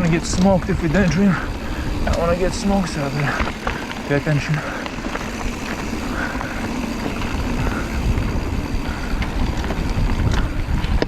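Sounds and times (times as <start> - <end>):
bike clicks and rattles: 0.0 - 11.0
mountain bike rumbling on dirt: 0.0 - 11.0
wind buffeting microphone: 0.0 - 11.0.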